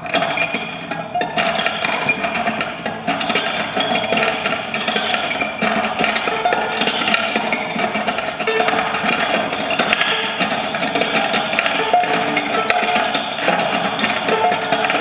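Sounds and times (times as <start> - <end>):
ringing guitar strings: 0.8 - 15.0
chain rattling on guitar strings: 1.2 - 15.0.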